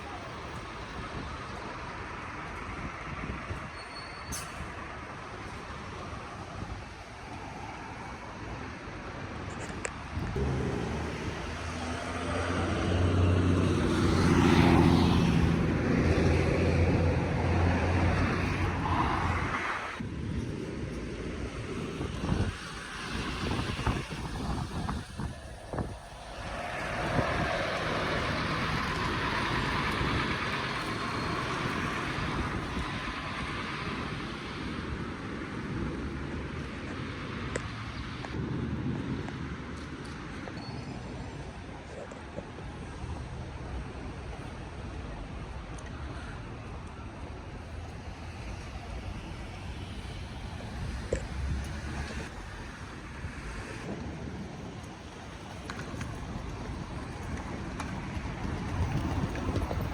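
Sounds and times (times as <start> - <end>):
tyre and road noise: 0.0 - 59.9
vehicle engine hum passing: 9.4 - 40.4, 41.1 - 59.9.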